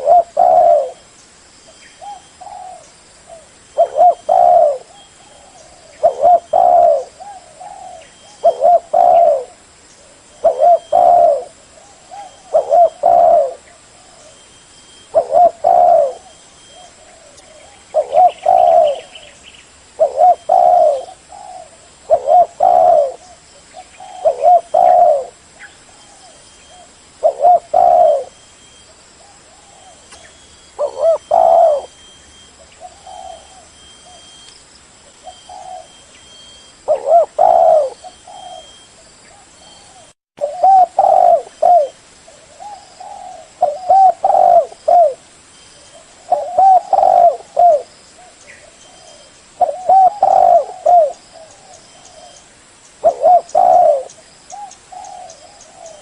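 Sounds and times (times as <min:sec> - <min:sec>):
dove cooing: 0:00.0 - 0:01.0, 0:02.0 - 0:34.5, 0:35.2 - 0:52.4, 0:53.0 - 0:56.0.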